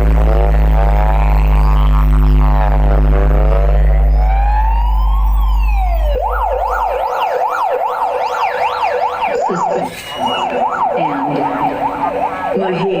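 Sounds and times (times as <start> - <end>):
deep bass drone: 0.0 - 13.0
siren sound effect: 0.0 - 13.0.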